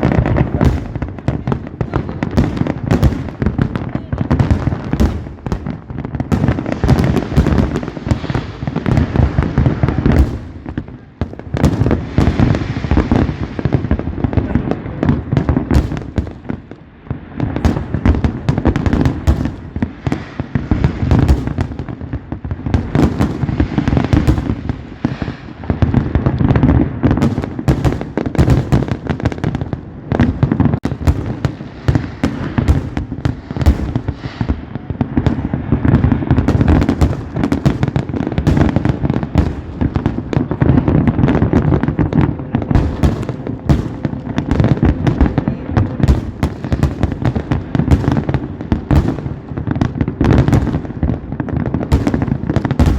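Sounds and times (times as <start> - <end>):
fireworks bursts and bangs: 0.0 - 52.9.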